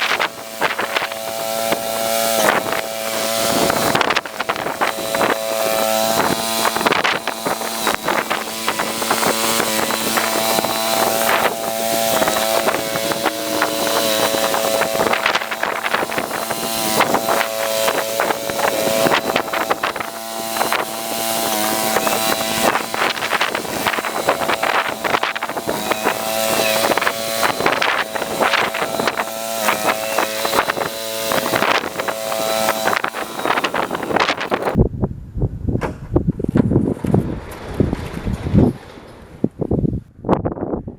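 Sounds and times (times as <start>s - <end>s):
garden tractor engine running: 0.0s - 34.8s.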